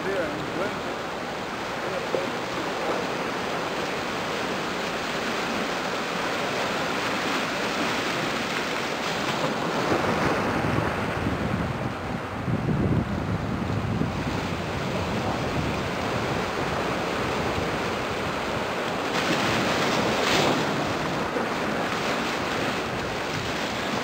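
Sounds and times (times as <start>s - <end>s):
surf washing on shore: 0.0s - 24.0s
wind buffeting microphone: 0.0s - 24.0s.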